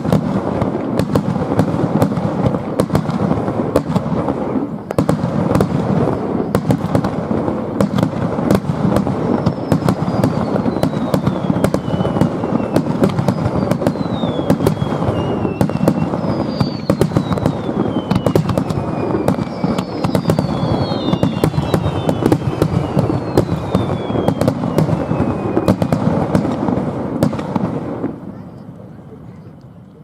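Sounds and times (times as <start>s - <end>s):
fireworks whistles falling: 0.0s - 28.7s
fireworks bursts rumbling: 0.0s - 30.0s
fireworks crackling pops: 0.0s - 30.0s.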